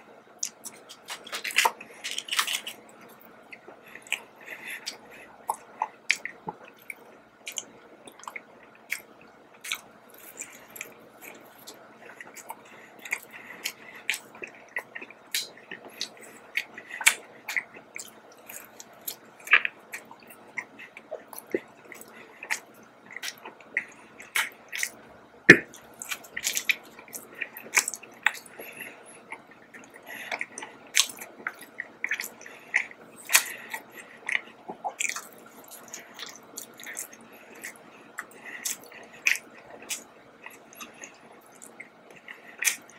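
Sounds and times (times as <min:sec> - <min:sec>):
person chewing: 0:00.4 - 0:42.9.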